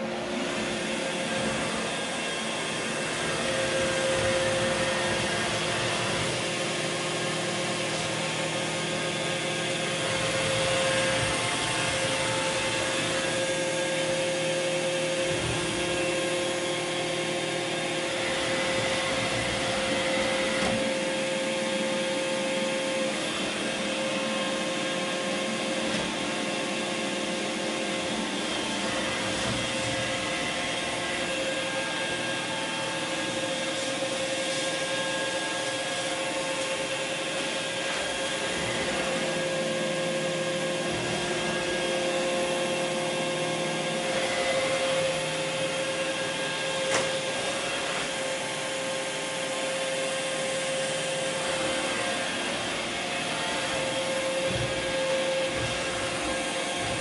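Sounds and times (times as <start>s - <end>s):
robot vacuum whirring: 0.0s - 57.0s.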